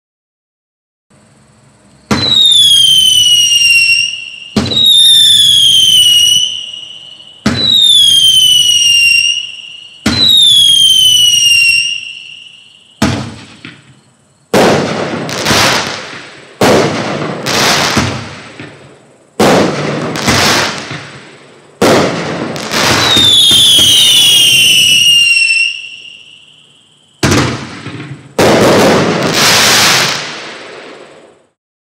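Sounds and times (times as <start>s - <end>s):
firework crackling: 2.1s - 26.4s, 27.2s - 31.6s
fireworks shots firing: 2.1s - 26.4s, 27.1s - 31.6s
falling firework whistle: 2.1s - 31.6s.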